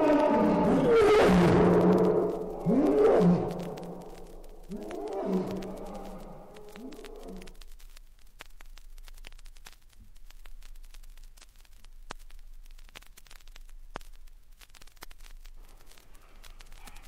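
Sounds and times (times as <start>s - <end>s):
faint hiss: 0.0s - 17.0s
vinyl crackles and pops: 0.0s - 17.0s
steady low hum: 1.5s - 17.0s.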